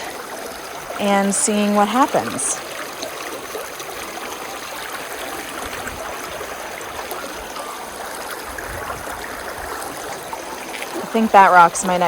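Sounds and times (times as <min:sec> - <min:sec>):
brook flowing over stones: 0:00.0 - 0:12.0.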